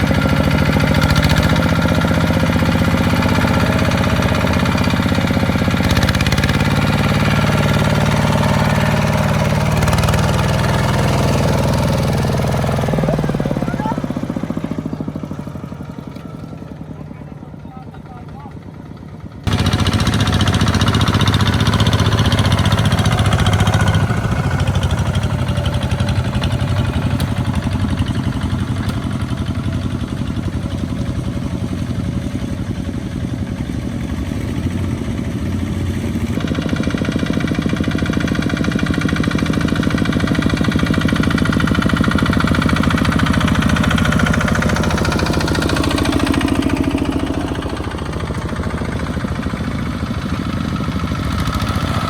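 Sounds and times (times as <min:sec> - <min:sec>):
small diesel engines running: 0:00.0 - 0:52.0.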